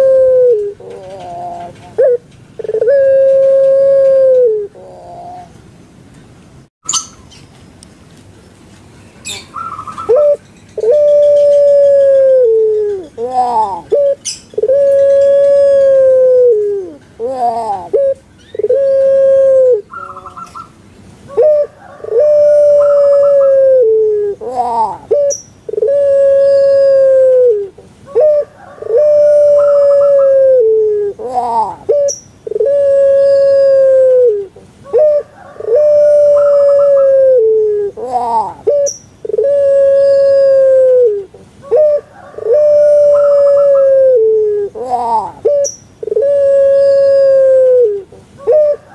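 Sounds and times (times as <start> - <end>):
dove cooing: 0.0 - 5.5, 9.2 - 20.7, 21.3 - 48.9.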